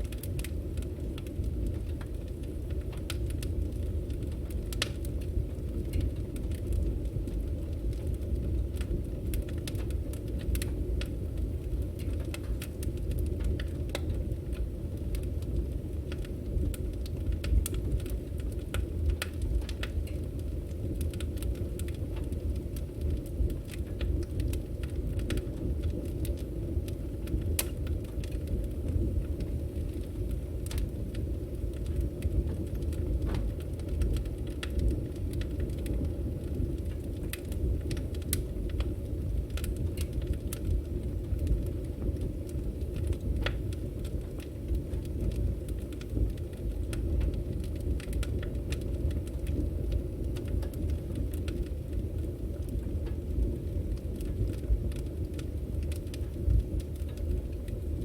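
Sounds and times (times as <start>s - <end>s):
fire rumbling: 0.0s - 58.0s
logs crackling and popping: 0.0s - 58.0s.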